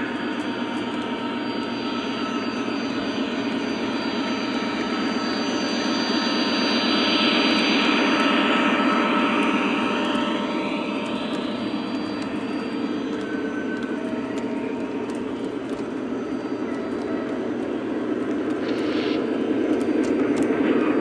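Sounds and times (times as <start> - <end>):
faint steady whine: 0.0 - 21.0.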